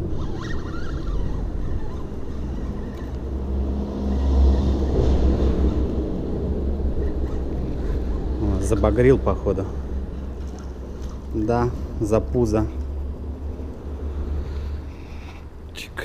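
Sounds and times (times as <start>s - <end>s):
passing engine rumble: 0.0s - 16.0s.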